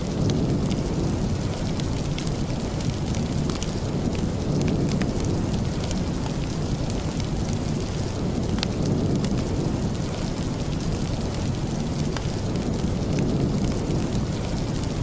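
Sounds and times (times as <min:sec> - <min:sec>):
heavy steady rain: 0:00.0 - 0:15.0.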